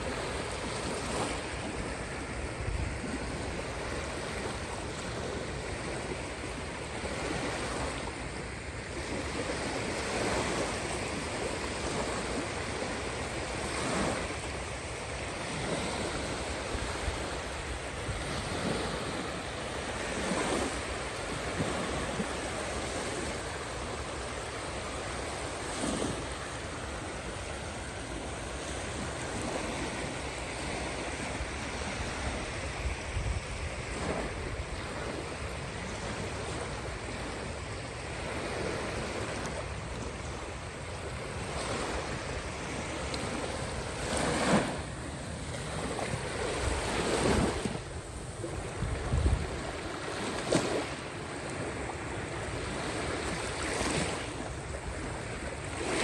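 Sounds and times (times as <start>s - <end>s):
sea waves washing in: 0.0s - 56.0s
waves breaking splash: 0.0s - 56.0s.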